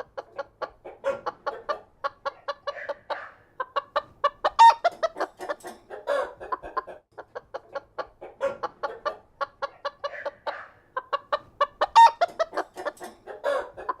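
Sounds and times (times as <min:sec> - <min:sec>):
chicken calls: 0:00.0 - 0:14.0
chickens clucking: 0:00.0 - 0:14.0.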